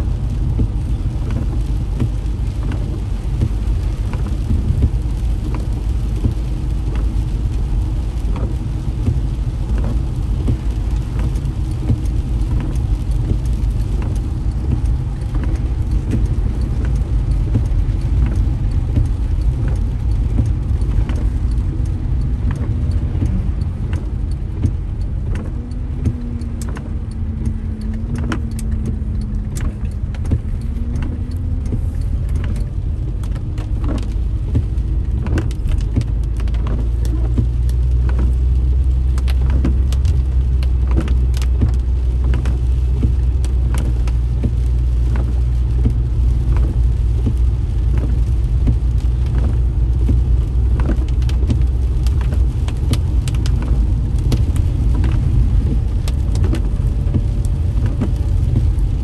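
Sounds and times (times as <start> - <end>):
engine and tyre rumble: 0.0 - 59.0
sharp clicks and ticks: 8.0 - 59.0.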